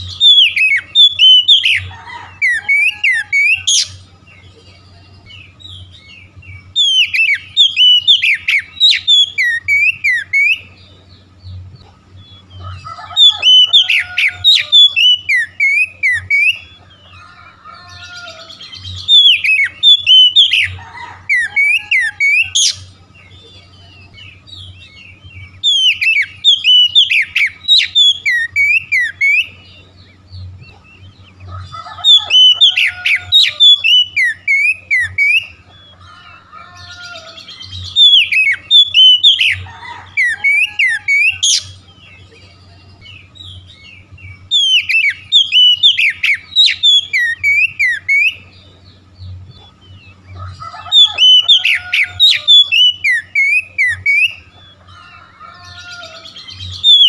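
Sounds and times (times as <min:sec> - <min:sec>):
bird singing whistled phrases: 0:00.0 - 0:04.0, 0:05.0 - 0:10.8, 0:12.2 - 0:16.9, 0:17.8 - 0:30.2, 0:32.0 - 0:35.6, 0:36.8 - 0:48.5, 0:50.8 - 0:54.4, 0:55.7 - 0:57.0
faint low hum: 0:00.0 - 0:57.0.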